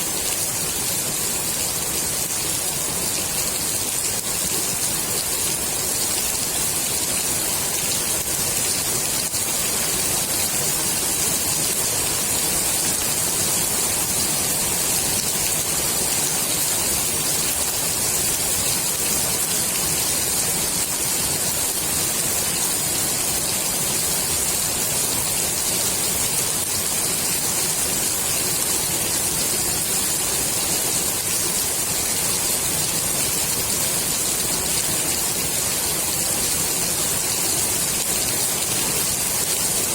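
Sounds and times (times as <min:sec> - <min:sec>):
rain falling on pool water: 0:00.0 - 0:39.9.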